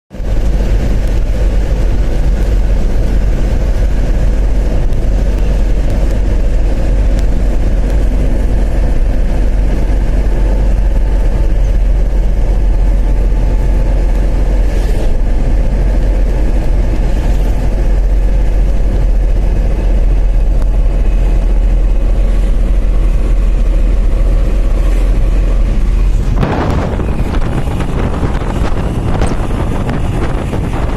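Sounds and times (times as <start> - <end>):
truck engine running: 0.1 - 30.9.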